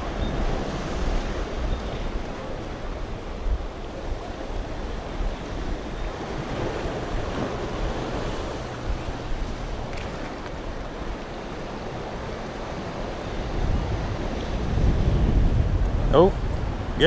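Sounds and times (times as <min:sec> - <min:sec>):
sea water lapping: 0:00.0 - 0:15.3
wind gusting on microphone: 0:00.0 - 0:17.0.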